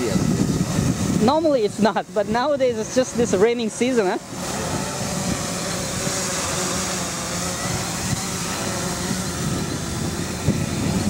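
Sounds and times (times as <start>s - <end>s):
quadcopter propellers whirring: 0.0s - 11.0s
wind hiss: 0.0s - 11.0s.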